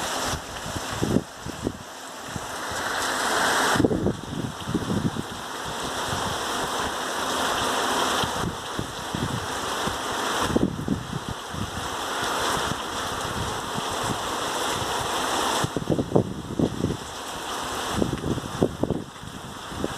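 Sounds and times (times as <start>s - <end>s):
wind buffeting microphone: 0.0s - 7.0s, 8.2s - 19.9s
rain falling: 0.0s - 19.9s.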